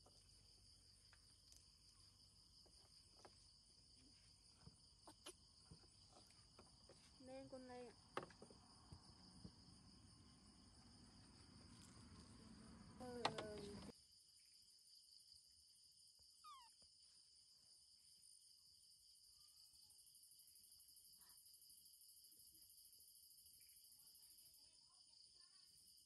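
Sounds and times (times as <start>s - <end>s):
night insects chirring: 0.0s - 26.0s.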